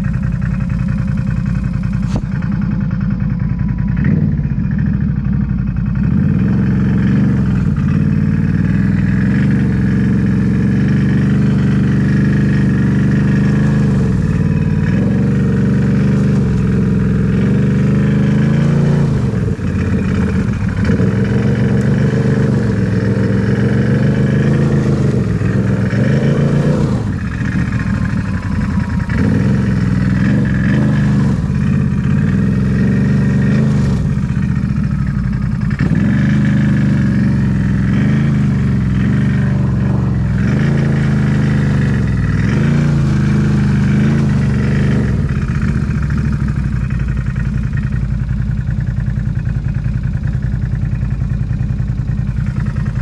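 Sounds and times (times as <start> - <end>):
off-road engine revving: 0.0 - 53.0.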